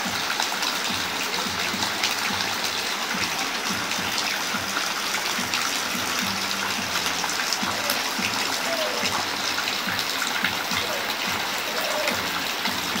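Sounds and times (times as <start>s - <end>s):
rain falling: 0.0s - 13.0s
water running off: 0.0s - 13.0s.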